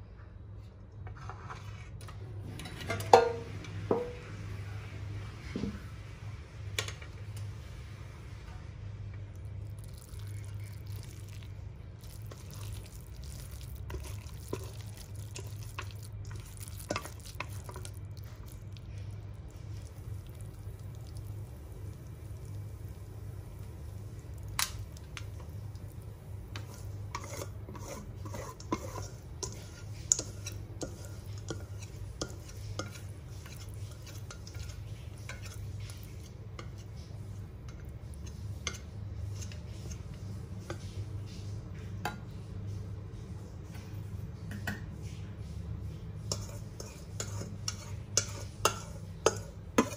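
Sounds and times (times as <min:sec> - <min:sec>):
utensil stirring in a bowl: 0:09.3 - 0:43.9, 0:44.6 - 0:49.9.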